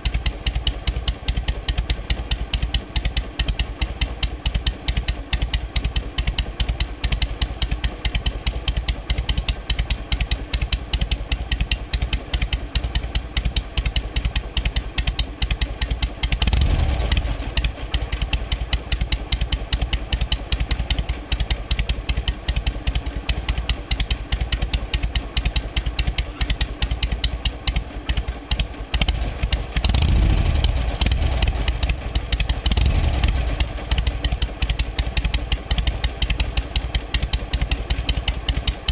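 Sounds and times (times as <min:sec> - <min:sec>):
motorcycle engine idling: 0:00.0 - 0:38.9
motorcycle throttle blips: 0:00.0 - 0:38.9.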